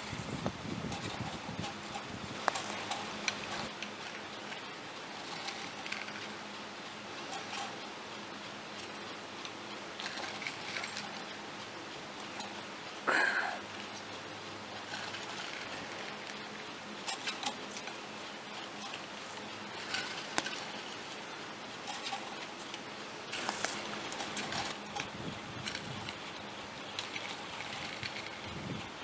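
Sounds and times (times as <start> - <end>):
ski tow metallic clicks and rattles: 0.0 - 6.6, 7.2 - 11.4, 13.7 - 29.0
hanger clattering round wheel: 0.0 - 8.0, 8.7 - 11.5, 13.3 - 29.0.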